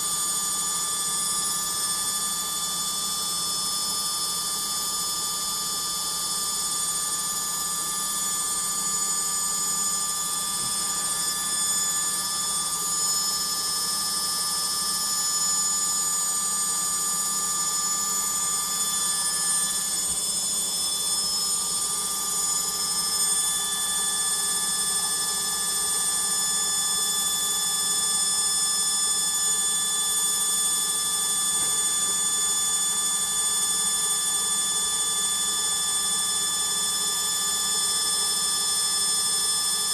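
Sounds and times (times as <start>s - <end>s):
washing machine spin whine: 0.0s - 39.9s.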